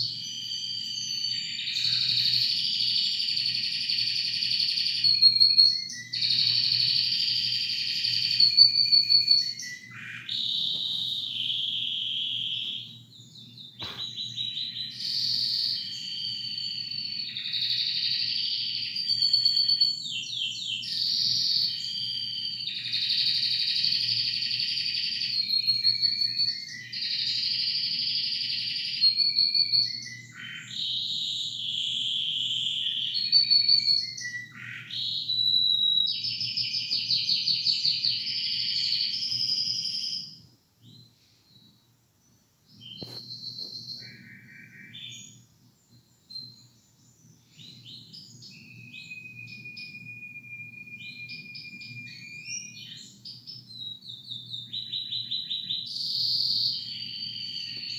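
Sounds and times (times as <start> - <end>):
canary singing trills: 0.0 - 41.8, 42.7 - 57.9.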